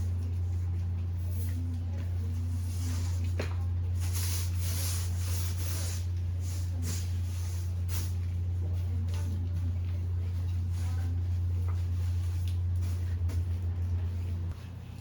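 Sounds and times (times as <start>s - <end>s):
low electrical hum: 0.0s - 15.0s
rustling of items: 0.0s - 15.0s.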